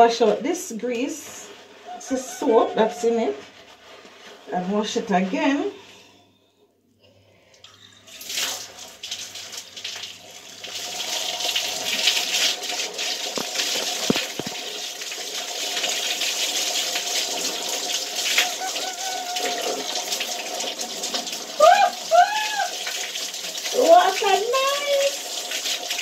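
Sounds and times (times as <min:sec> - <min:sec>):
shower water running: 0:00.0 - 0:05.7, 0:07.6 - 0:26.0.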